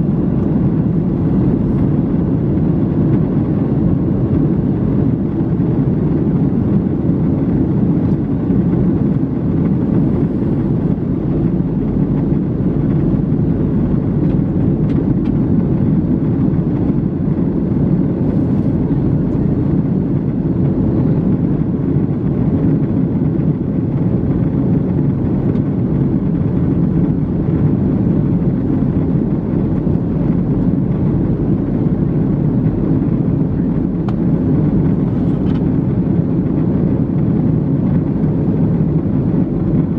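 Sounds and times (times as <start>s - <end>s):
airflow over fuselage: 0.0s - 39.9s
airplane cabin engine drone: 0.0s - 39.9s.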